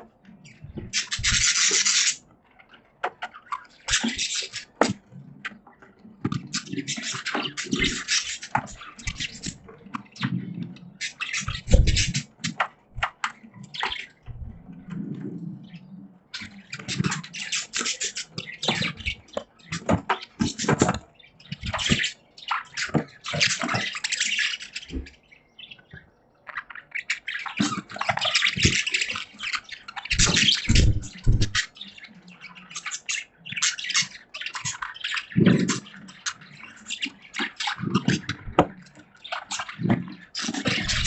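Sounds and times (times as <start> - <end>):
budgies chattering and chirping: 0.0 - 41.0.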